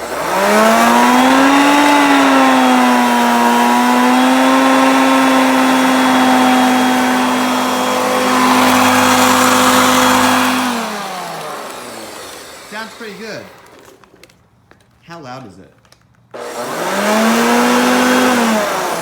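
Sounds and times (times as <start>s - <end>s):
vacuum cleaner motor hum: 0.0s - 14.4s, 16.4s - 19.0s.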